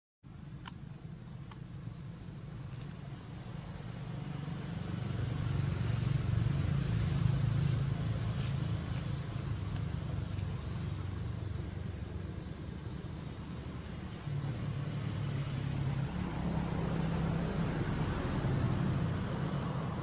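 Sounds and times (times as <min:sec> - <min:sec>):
high insect drone: 0:00.3 - 0:20.0
motor vehicle passing: 0:02.5 - 0:20.0.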